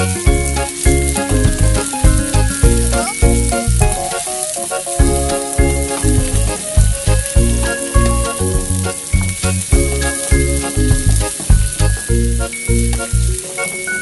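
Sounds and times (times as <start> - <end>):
background music with a beat: 0.0 - 14.0
onions sizzling in a frying pan: 0.1 - 11.7.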